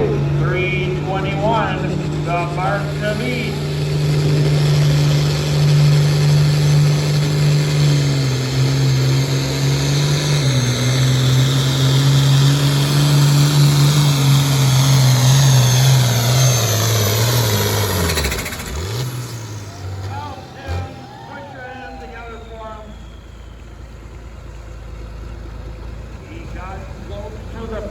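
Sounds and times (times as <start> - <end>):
tractor engine at full throttle: 0.0 - 27.9.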